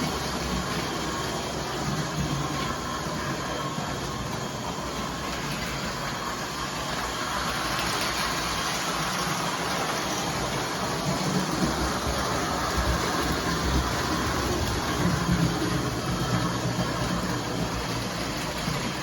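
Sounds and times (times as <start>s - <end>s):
model train wheels rumbling: 0.0s - 19.0s.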